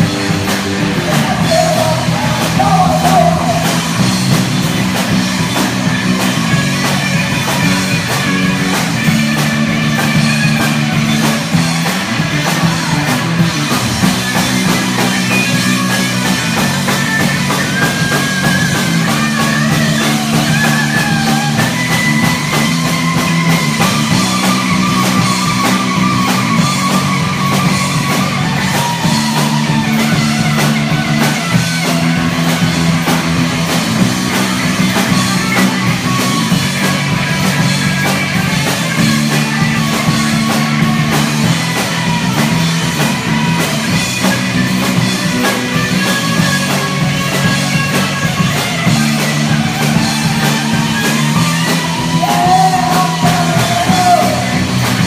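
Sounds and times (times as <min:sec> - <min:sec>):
lead guitar line: 0:00.0 - 0:55.0
live rock band playing: 0:00.0 - 0:55.0.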